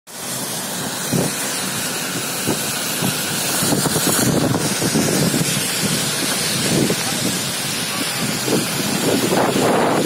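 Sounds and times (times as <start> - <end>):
wind buffeting microphone: 1.0 - 10.0.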